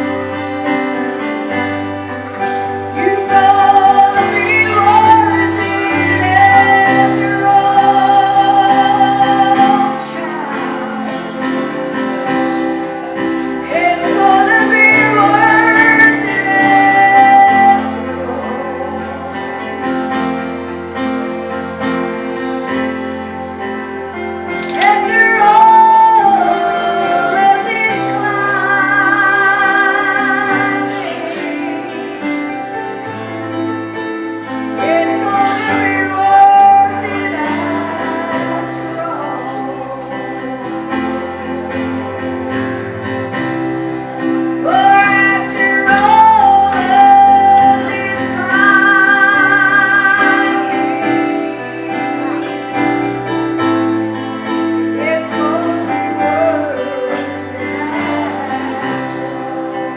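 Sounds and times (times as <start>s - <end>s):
instrumental accompaniment: 0.0s - 59.9s
woman singing with vibrato: 2.4s - 20.9s, 24.4s - 33.0s, 34.6s - 59.9s.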